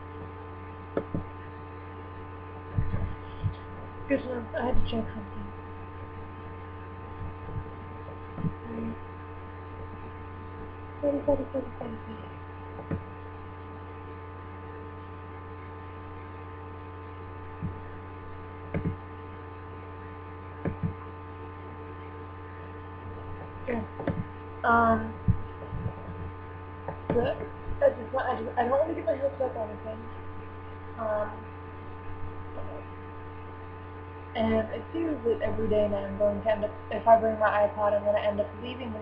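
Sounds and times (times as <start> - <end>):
electrical hum with steady tones: 0.0 - 39.0.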